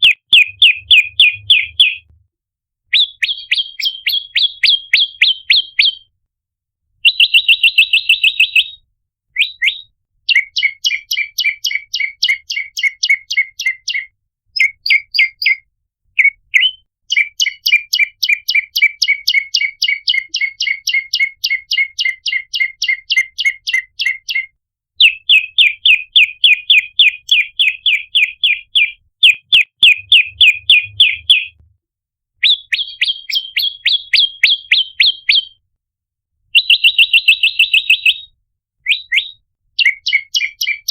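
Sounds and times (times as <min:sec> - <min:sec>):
bird sharp high chirps: 0:00.0 - 0:02.2, 0:02.9 - 0:06.1, 0:07.0 - 0:31.6, 0:32.4 - 0:35.6, 0:36.6 - 0:40.9.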